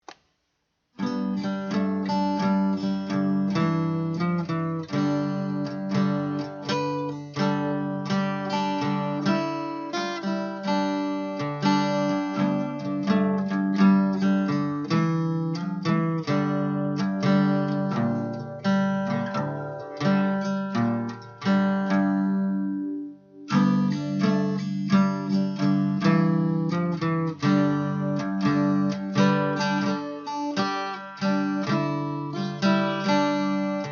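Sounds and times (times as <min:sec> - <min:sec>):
acoustic guitar strummed and picked: 0:01.0 - 0:33.9.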